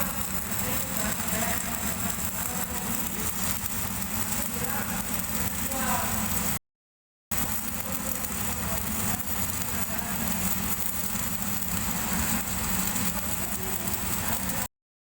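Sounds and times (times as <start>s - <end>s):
welding arc crackling: 0.0s - 6.6s, 7.3s - 14.7s.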